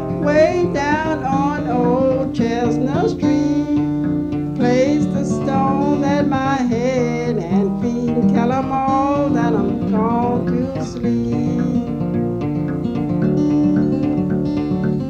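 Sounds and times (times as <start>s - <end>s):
person singing: 0.0s - 12.3s
acoustic guitar picked: 0.0s - 15.0s.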